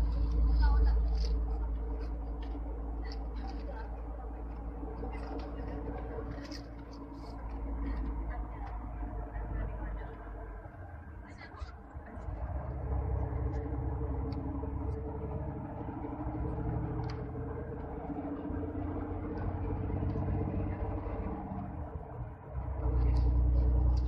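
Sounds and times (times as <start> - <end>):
vehicle engine drone: 0.0 - 24.0.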